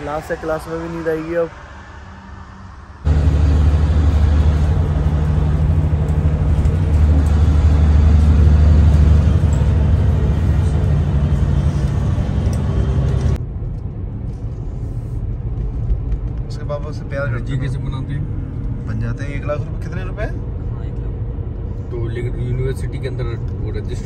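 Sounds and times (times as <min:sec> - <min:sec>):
road noise: 0:00.0 - 0:24.0
vehicle engine droning: 0:00.0 - 0:24.0.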